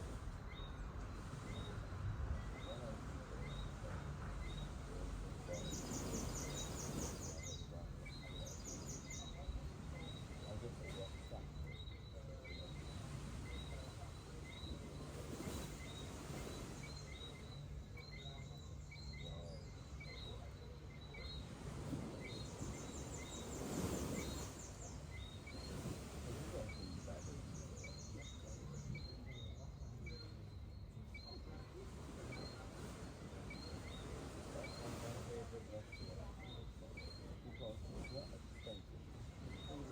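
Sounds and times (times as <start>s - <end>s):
gentle surf: 0.0s - 39.9s.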